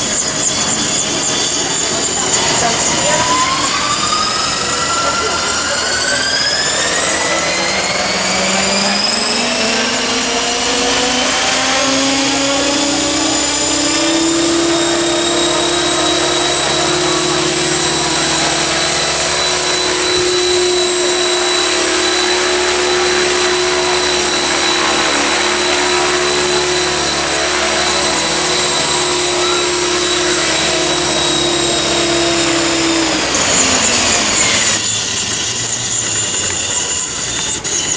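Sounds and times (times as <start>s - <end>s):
model helicopter whining: 0.0s - 37.9s.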